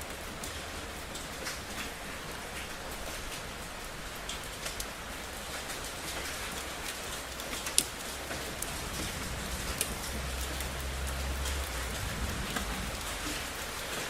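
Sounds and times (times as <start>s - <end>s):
rain drops ticking on surface: 0.0s - 14.0s.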